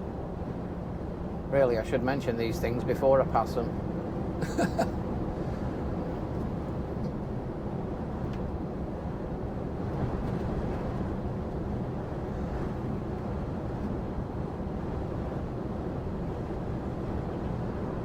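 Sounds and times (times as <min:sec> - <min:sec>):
lorry engine and road rumble: 0:00.0 - 0:18.0.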